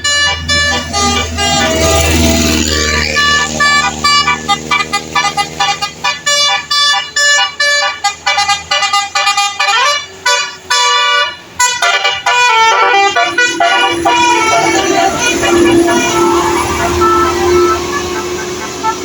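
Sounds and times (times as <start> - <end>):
multi-tone bus air horns: 0.0 - 19.0.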